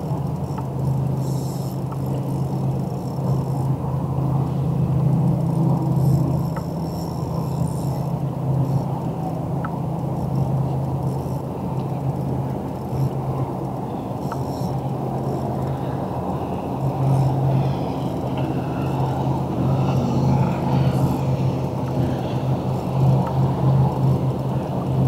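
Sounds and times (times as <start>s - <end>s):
outboard motor humming: 0.0s - 25.0s.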